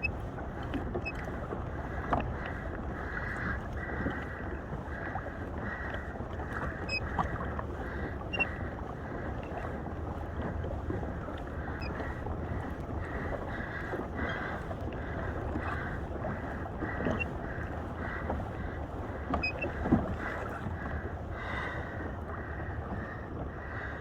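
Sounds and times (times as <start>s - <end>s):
water washing around kayak: 0.0s - 24.0s.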